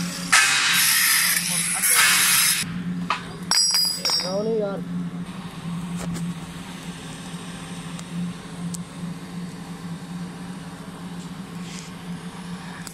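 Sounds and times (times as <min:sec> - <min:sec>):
welding hum and hiss: 0:00.0 - 0:04.2, 0:04.8 - 0:12.9.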